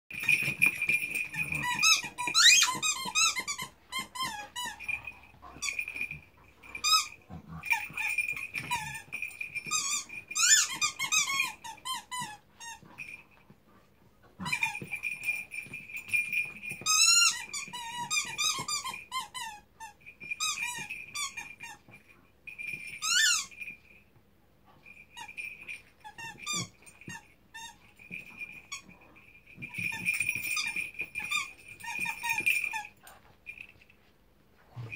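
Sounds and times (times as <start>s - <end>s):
dog chewing toy: 0.1s - 13.5s, 14.2s - 22.0s, 22.7s - 23.5s, 24.7s - 33.5s
dog toy squeaking: 0.2s - 13.2s, 14.4s - 22.0s, 22.7s - 23.7s, 25.1s - 33.0s.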